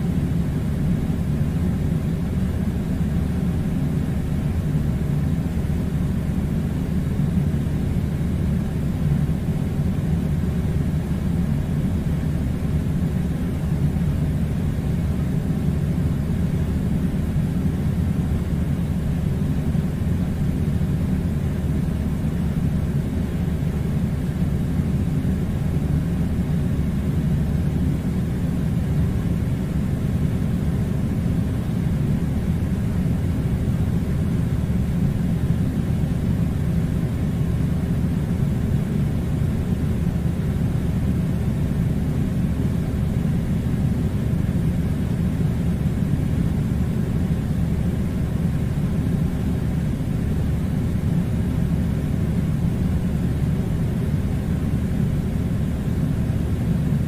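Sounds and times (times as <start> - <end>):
air conditioner running: 0.0 - 57.0.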